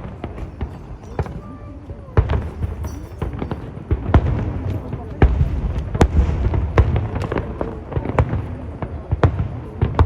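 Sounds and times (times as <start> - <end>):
continuous low rumble: 0.0 - 10.0
fireworks bangs: 0.0 - 10.0.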